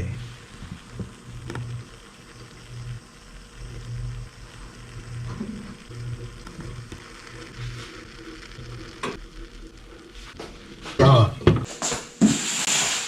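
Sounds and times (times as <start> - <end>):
low hum: 0.0 - 11.7
stovetop espresso maker sputtering: 0.0 - 13.0.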